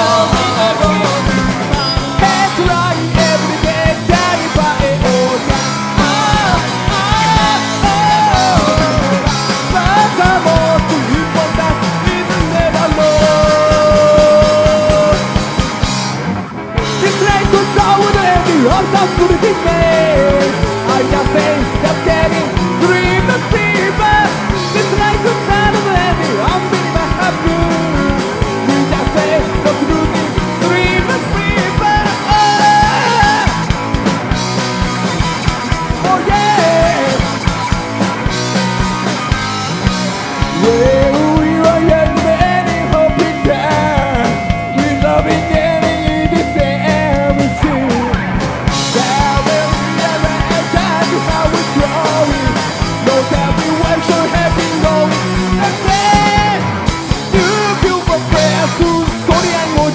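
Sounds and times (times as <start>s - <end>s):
man singing and shouting: 0.0s - 15.6s, 16.8s - 34.1s, 34.7s - 39.6s, 40.2s - 59.9s
distorted electric guitar: 0.0s - 59.9s
drums: 0.0s - 59.9s
electric bass: 0.0s - 59.9s.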